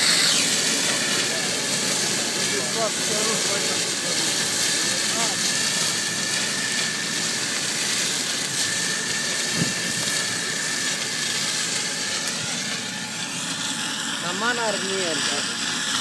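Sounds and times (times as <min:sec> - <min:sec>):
thin high whine: 0:00.0 - 0:16.0
tractor engine and mulcher rotor: 0:00.0 - 0:16.0.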